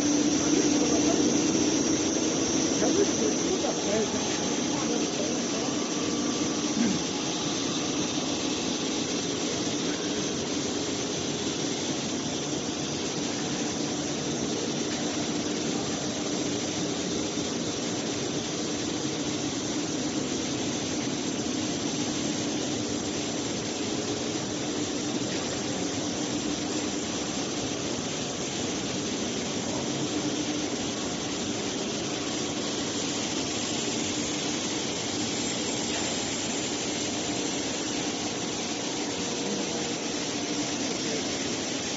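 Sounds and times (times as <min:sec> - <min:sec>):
machinery hiss: 0:00.0 - 0:41.9
machinery hum: 0:00.0 - 0:41.9.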